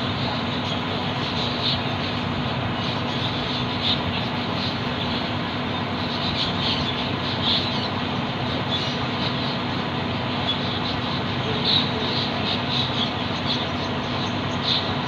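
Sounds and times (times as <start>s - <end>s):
loud steady background noise: 0.0s - 15.0s.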